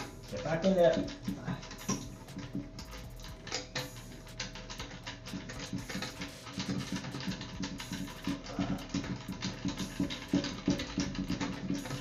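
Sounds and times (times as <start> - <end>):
quiet background music: 0.0 - 12.0
tools clicking and scraping: 0.0 - 12.0.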